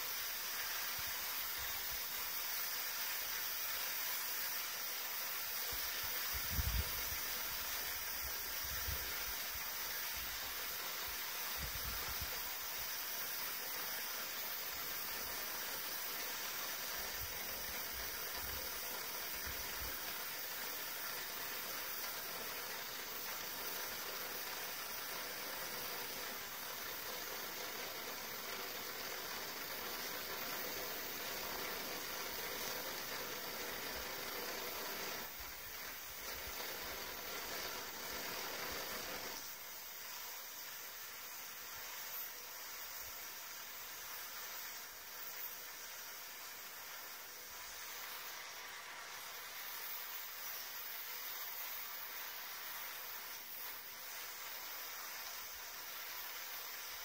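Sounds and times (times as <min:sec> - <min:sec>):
blowtorch hissing: 0:00.0 - 0:57.0.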